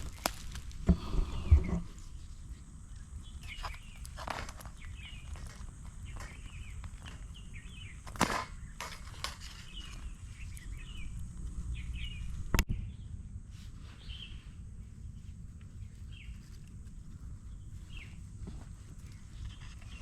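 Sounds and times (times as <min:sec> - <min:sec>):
small birds chirping: 0:00.0 - 0:13.2, 0:13.8 - 0:20.0
low background rumble: 0:00.0 - 0:20.0.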